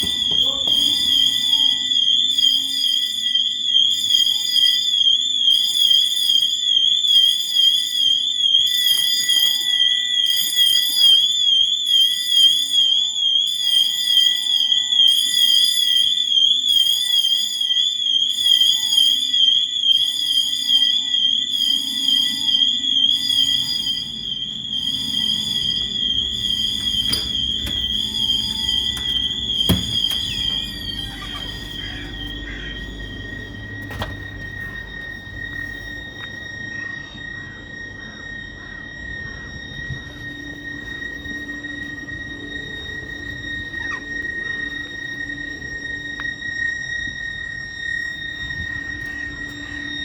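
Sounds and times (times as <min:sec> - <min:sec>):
fire alarm siren warbling: 0:00.0 - 0:50.0
pulsing alarm sound: 0:00.0 - 0:50.0.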